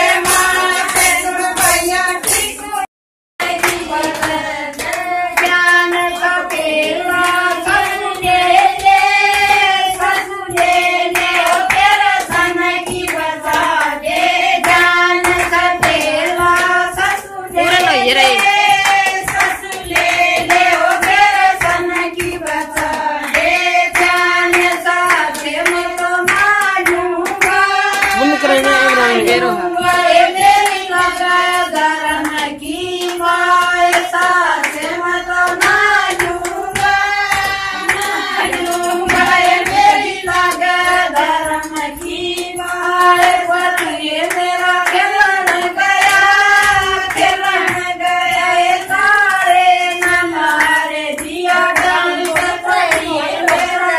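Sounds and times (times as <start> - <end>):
hand clapping: 0.0 - 53.9
women singing together: 0.0 - 53.9.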